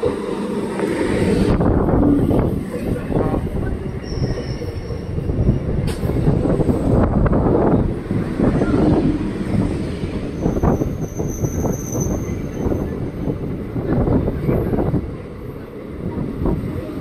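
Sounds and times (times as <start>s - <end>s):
high whine of wheels on rails: 0.0s - 17.0s.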